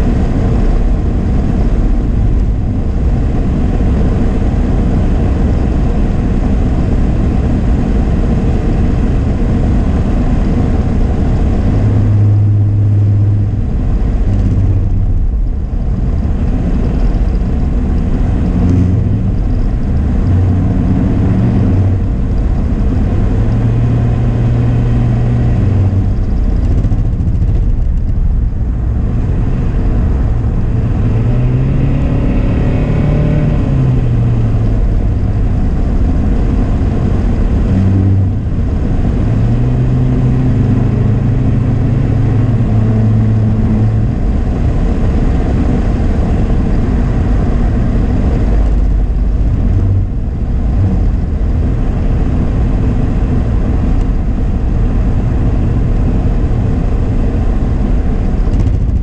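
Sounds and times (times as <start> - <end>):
car engine hum: 0.0 - 59.0
tyre road noise: 0.0 - 59.0.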